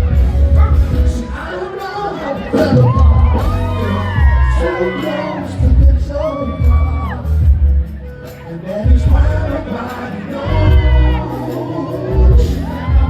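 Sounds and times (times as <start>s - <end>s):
heavy pulsing bass beat: 0.0s - 1.6s, 2.4s - 13.0s
crowd noise: 0.0s - 13.0s
live pop music through pa: 0.0s - 13.0s
person singing long notes: 0.8s - 7.4s, 8.6s - 13.0s.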